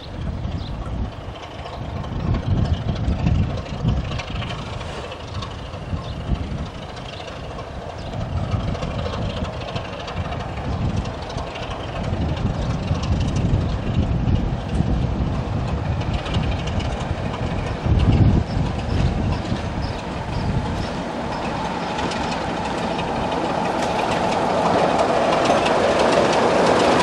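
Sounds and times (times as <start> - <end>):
locomotive engine rumble: 0.0 - 27.0.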